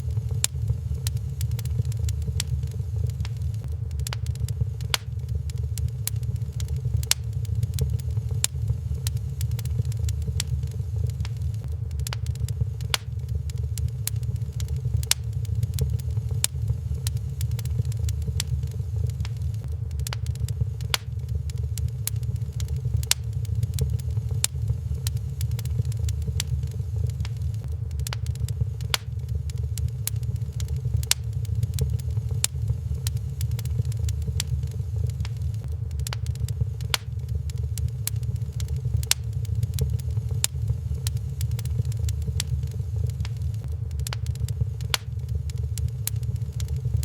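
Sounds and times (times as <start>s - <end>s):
low rumble of fire: 0.0s - 47.0s
wood fire crackling: 0.0s - 47.0s.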